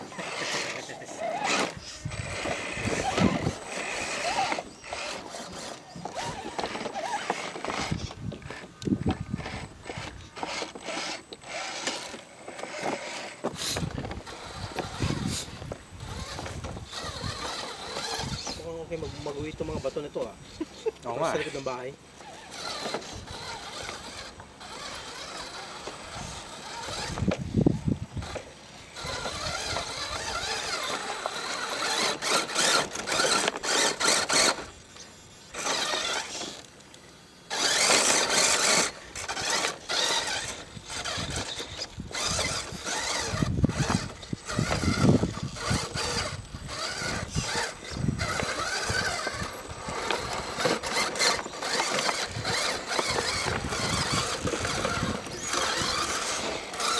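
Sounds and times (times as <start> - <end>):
toy car electric motors whining: 0.0 - 56.9.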